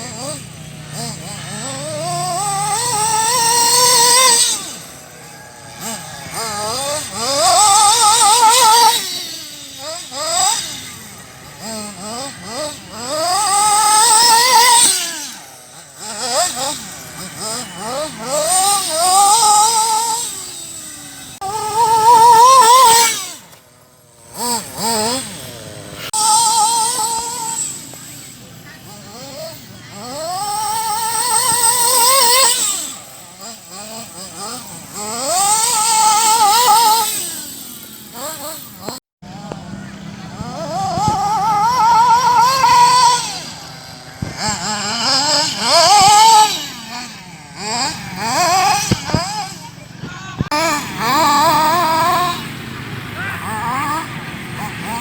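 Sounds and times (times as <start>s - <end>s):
rc car motor whining: 0.0s - 55.0s.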